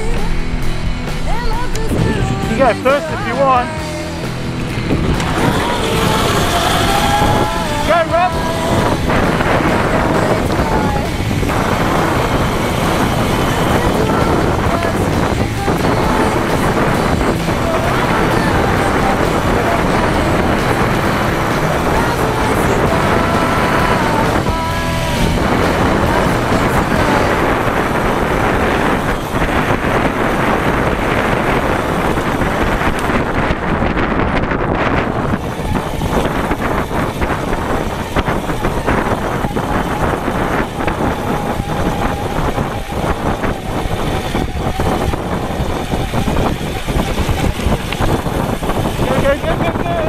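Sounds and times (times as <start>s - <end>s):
bike rattling over bumps: 0.0s - 50.0s
bike tyres rumbling on dirt: 0.0s - 50.0s
wind buffeting microphone: 0.0s - 50.0s.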